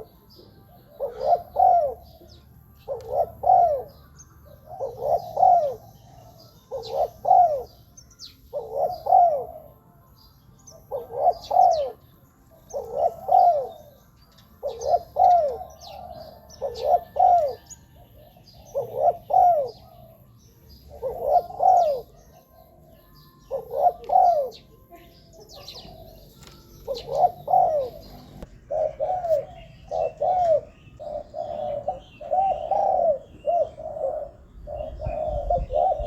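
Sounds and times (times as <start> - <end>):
dove cooing: 0.0 - 10.0, 10.6 - 36.0
small birds chirping: 0.0 - 36.0.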